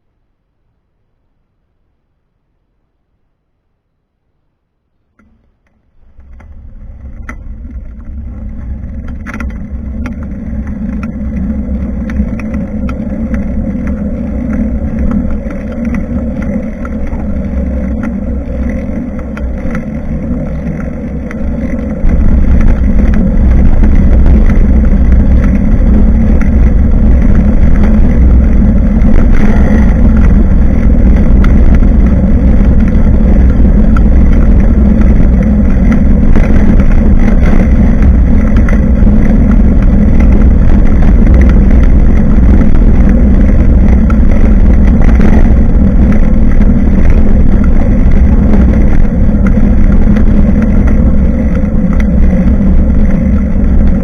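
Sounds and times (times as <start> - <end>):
road rumble: 5.2 - 54.0
wind buffeting: 6.0 - 54.0.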